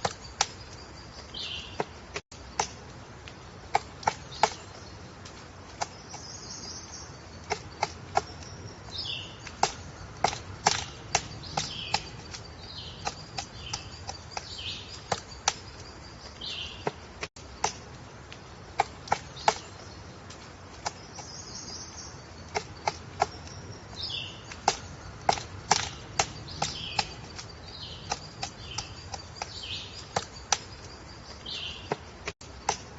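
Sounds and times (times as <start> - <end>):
woodpecker pecking at wood: 0.0 - 32.9.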